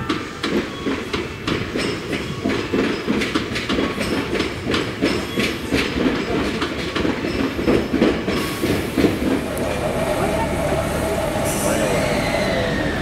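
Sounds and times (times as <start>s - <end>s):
train wheels clacking on track: 0.0s - 13.0s.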